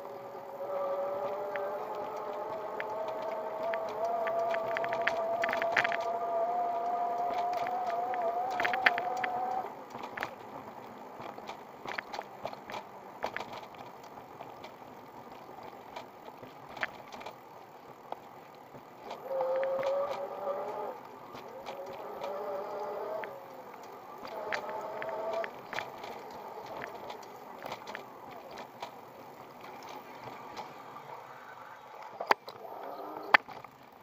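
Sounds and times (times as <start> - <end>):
bike rattling on rough path: 0.0 - 34.0
electric bike motor whining: 0.0 - 34.0.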